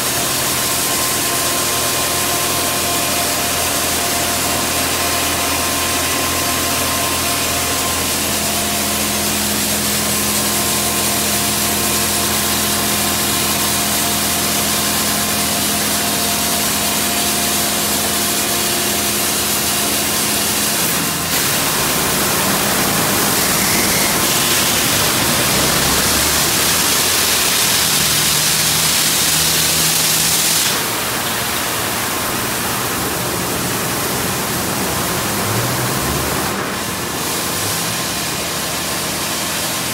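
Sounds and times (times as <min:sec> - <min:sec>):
car wash machine hum: 0:00.0 - 0:39.9.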